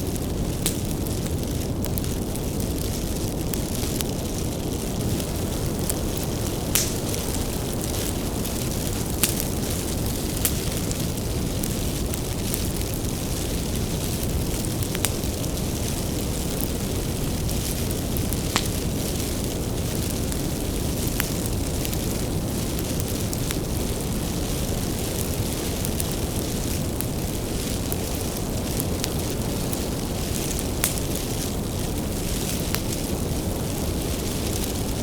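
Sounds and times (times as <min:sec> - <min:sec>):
bonfire flames rushing: 0:00.0 - 0:35.0
firewood crackling and popping: 0:00.0 - 0:35.0.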